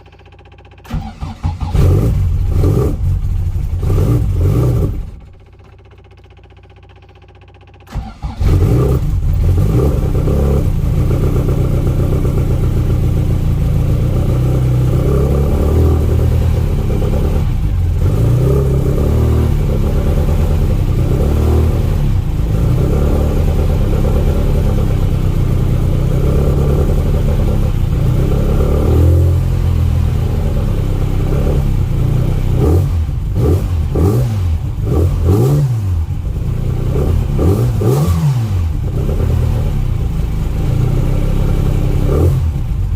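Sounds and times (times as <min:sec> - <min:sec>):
car engine revving unevenly: 0:00.9 - 0:05.2, 0:07.9 - 0:42.9.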